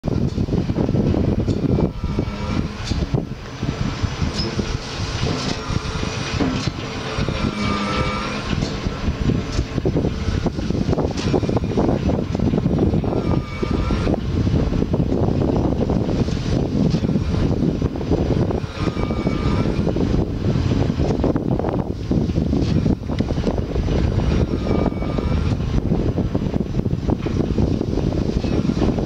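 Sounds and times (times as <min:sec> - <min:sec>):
pump jack mechanical hum: 0:00.0 - 0:29.0
wind buffeting microphone: 0:00.0 - 0:29.0.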